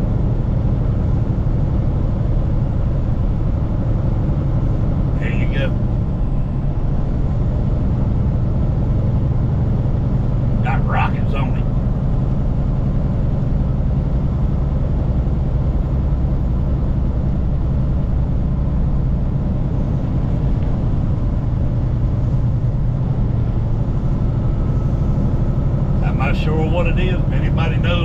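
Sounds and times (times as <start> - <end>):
road noise: 0.0 - 28.0
vehicle engine droning: 0.0 - 28.0.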